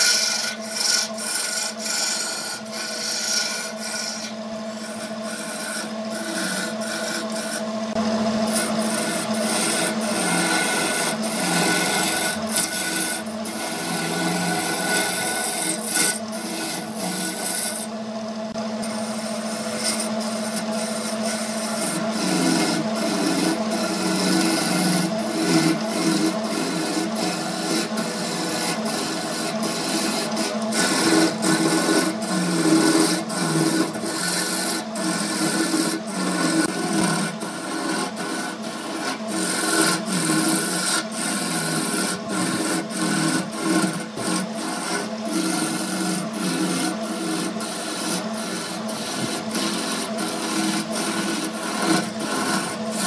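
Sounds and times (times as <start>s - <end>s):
lathe motor humming: 0.0s - 53.0s
turning tool scraping wood: 0.0s - 53.0s.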